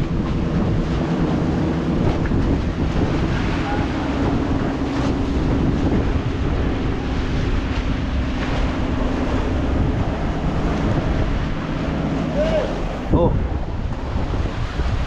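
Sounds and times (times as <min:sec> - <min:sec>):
boat engine droning: 0:00.0 - 0:15.0
water rushing along hull: 0:00.0 - 0:15.0
wind buffeting microphone: 0:00.0 - 0:15.0.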